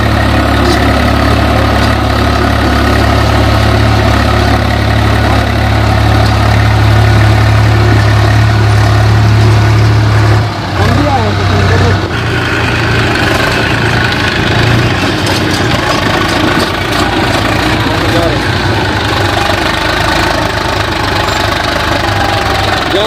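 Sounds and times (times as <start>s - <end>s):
diesel tractor engine humming: 0.0s - 23.0s.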